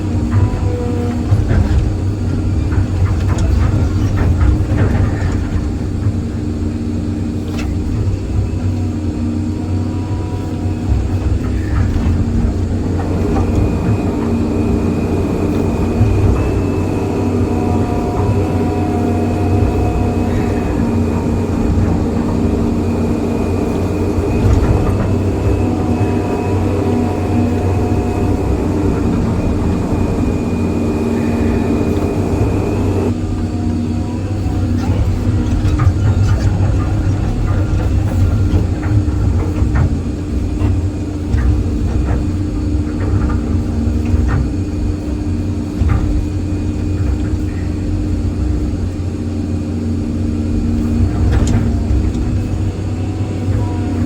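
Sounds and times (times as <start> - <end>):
excavator diesel engine running: 0.0 - 54.0
high hydraulic whine: 0.0 - 54.0.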